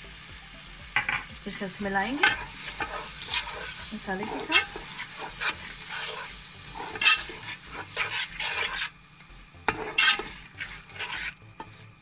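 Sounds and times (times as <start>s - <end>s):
spatula scraping a frying pan: 2.2s - 12.0s.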